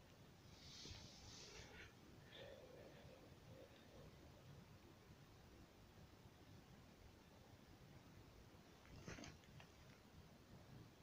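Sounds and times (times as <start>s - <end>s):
faint soft hiss: 0.0s - 11.0s.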